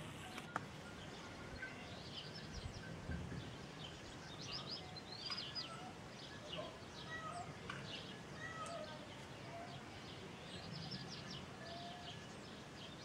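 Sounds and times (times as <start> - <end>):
small birds chirping: 0.0 - 13.0
steady background noise: 0.0 - 13.0.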